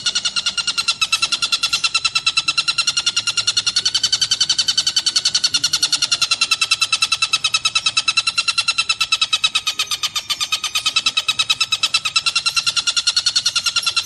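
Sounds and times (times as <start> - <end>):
kingfisher rattling call: 0.0 - 14.0.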